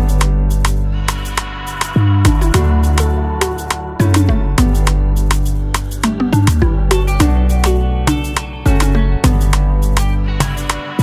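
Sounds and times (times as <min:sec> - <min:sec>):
sharp percussion beat: 0:00.0 - 0:11.0.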